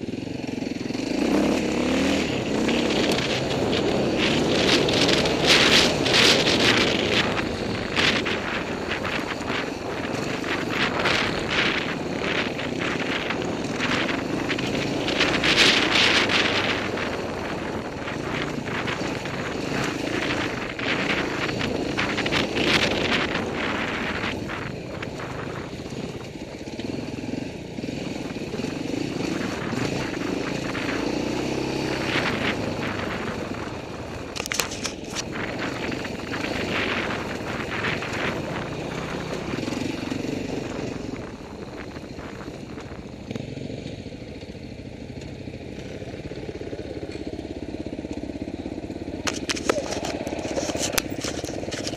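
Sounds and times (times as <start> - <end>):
dirt bike engine: 0.0 - 51.9
wind buffeting microphone: 0.2 - 44.4.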